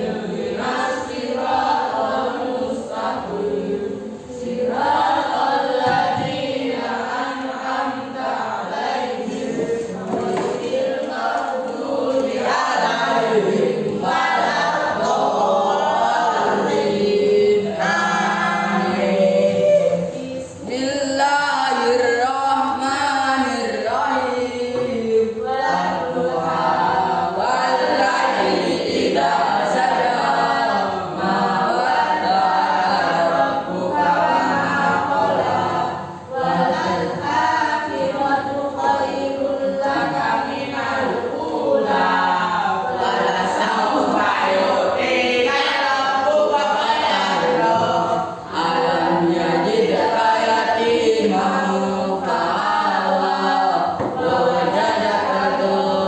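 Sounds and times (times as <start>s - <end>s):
group of voices chanting: 0.0s - 56.0s.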